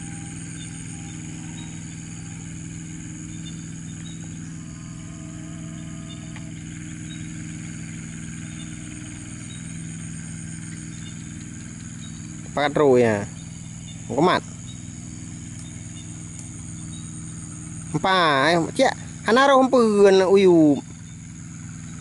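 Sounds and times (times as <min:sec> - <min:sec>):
high-pitched drone: 0:00.0 - 0:20.8
engine humming: 0:00.0 - 0:22.0.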